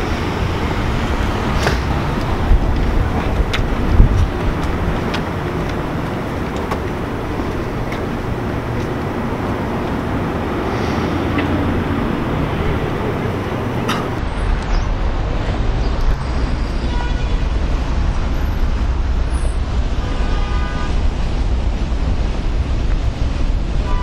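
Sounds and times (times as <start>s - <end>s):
vehicle and road noise rumble: 0.0s - 24.0s.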